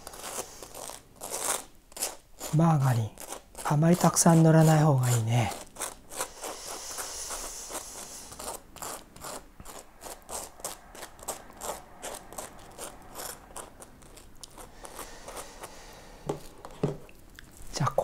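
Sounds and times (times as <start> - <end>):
knife scraping toast: 0.0 - 16.9.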